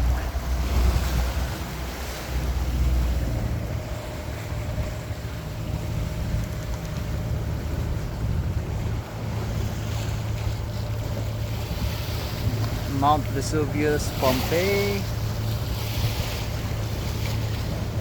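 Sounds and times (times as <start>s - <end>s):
water rushing along boat hull: 0.0s - 18.0s
wind buffeting microphone: 0.0s - 18.0s.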